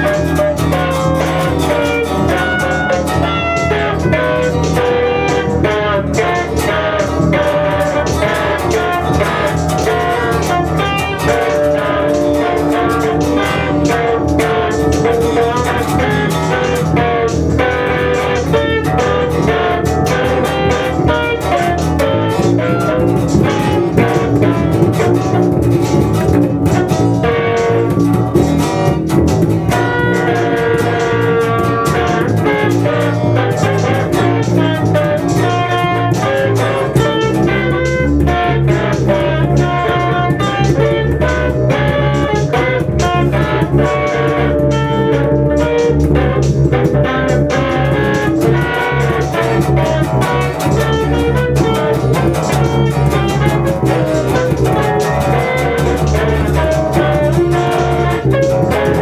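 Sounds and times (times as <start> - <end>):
live blues band music: 0.0 - 59.0.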